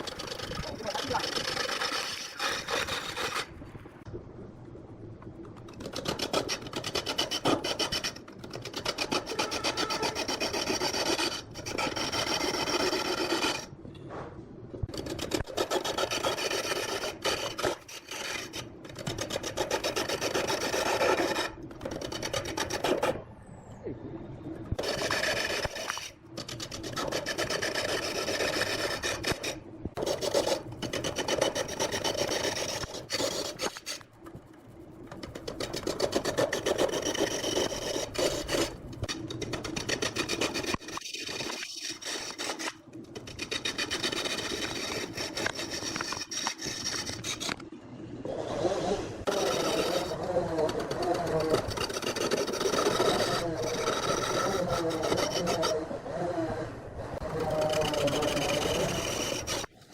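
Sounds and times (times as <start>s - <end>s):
tool scraping wood on lathe: 0.0s - 3.6s, 5.7s - 13.7s, 14.9s - 23.2s, 24.8s - 47.6s, 48.5s - 59.9s.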